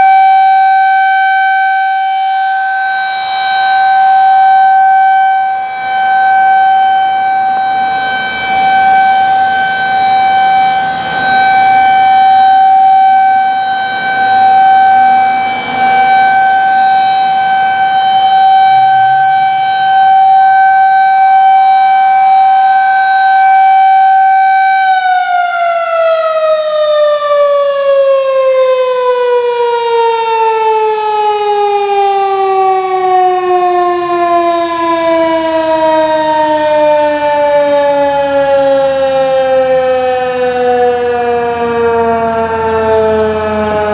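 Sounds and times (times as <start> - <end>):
rotating warning siren: 0.0 - 43.9.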